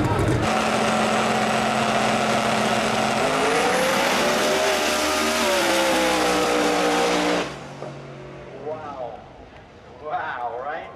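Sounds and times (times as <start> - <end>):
drag car engine full throttle: 0.0 - 10.0.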